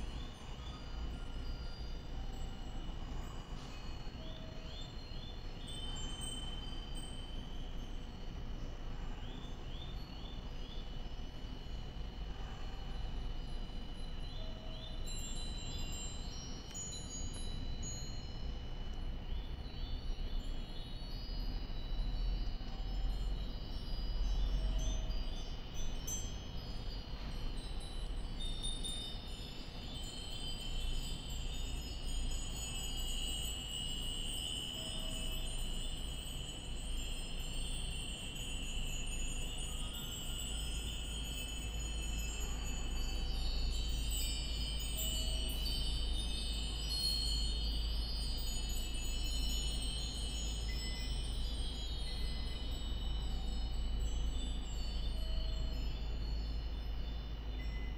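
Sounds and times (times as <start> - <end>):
wind bells ringing: 0.0 - 57.9.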